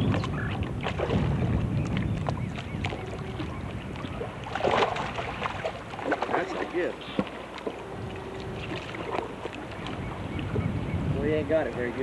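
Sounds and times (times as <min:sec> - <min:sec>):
fish splashing: 0:00.0 - 0:10.6
water lapping at boat hull: 0:00.0 - 0:11.7
wind on microphone: 0:00.0 - 0:12.0.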